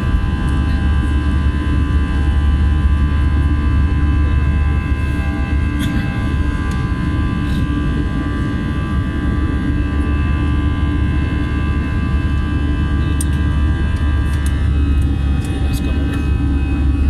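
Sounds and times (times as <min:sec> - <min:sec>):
engine and airflow rumble: 0:00.0 - 0:17.0
steady whining tones: 0:00.0 - 0:17.0.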